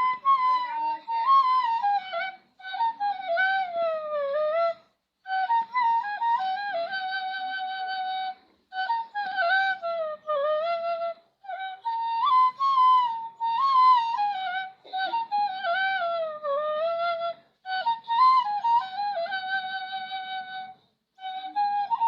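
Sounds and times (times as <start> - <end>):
bamboo flute folk melody: 0.0 - 22.0.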